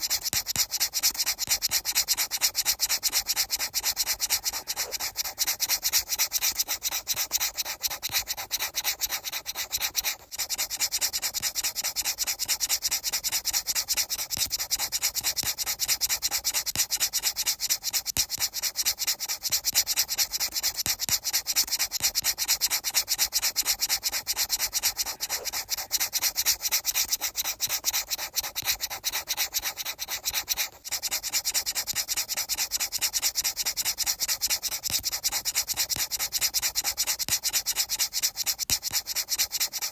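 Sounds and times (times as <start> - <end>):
fast rubbing or scratching strokes: 0.0 - 39.9.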